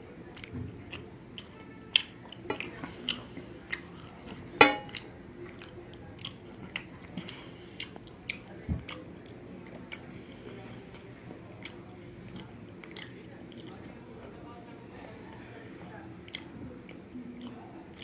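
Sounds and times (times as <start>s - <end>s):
person chewing wetly: 0.0s - 14.4s, 16.2s - 18.0s.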